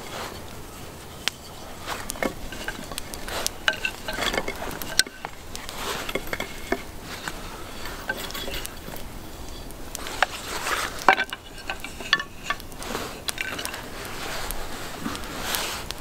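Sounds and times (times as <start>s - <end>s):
wooden parts clicking and knocking: 0.0s - 16.0s.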